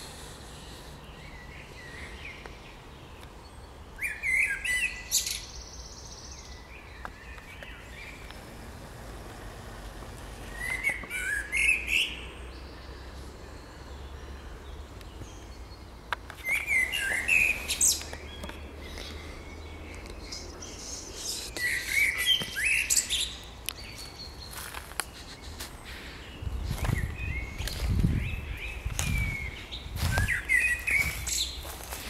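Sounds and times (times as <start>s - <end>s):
blackbird singing: 0.0s - 9.5s, 10.3s - 32.0s.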